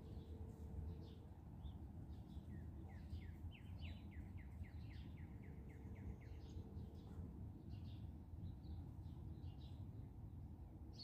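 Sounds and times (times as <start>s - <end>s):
songbird singing: 0.0s - 9.9s.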